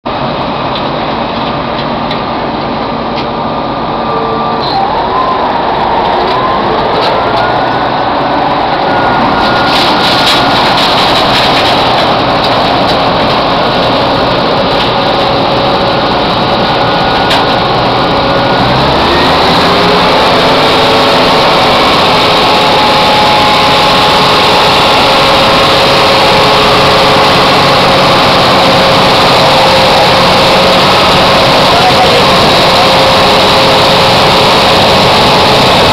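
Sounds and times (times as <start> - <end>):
milling machine mechanical din: 0.1 - 35.9.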